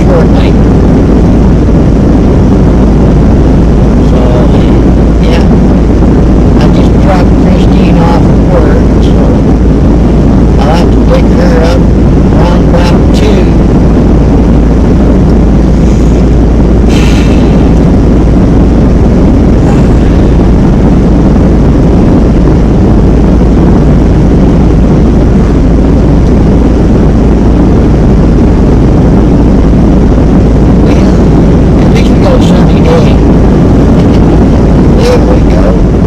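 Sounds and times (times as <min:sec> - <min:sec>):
vehicle road noise rumble: 0:00.0 - 0:36.0.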